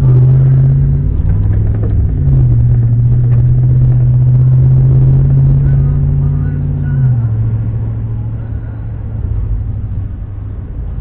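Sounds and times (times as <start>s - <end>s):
car engine humming: 0.0s - 11.0s
tyre noise on wet road: 0.0s - 11.0s.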